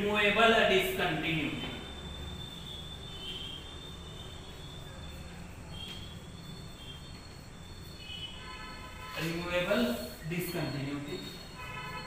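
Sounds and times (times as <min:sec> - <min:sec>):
high-pitched chalk squeaks: 0:01.4 - 0:12.0.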